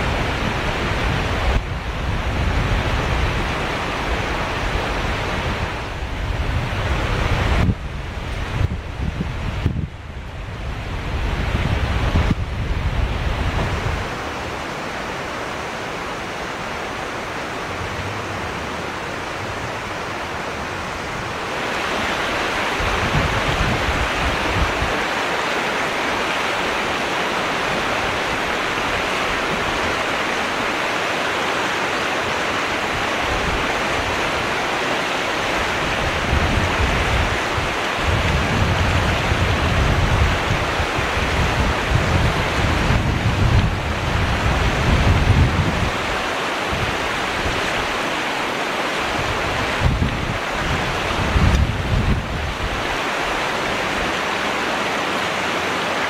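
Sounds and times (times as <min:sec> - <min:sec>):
wind buffeting microphone: 0:00.0 - 0:30.9, 0:32.2 - 0:48.1, 0:48.9 - 0:55.3
river rushing over rapids: 0:00.0 - 0:56.0.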